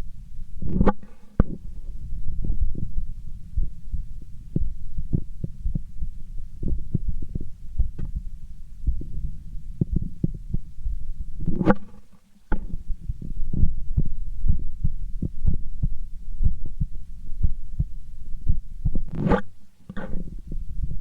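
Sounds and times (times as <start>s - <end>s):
heartbeat through stethoscope: 0.0s - 11.9s, 12.5s - 21.0s.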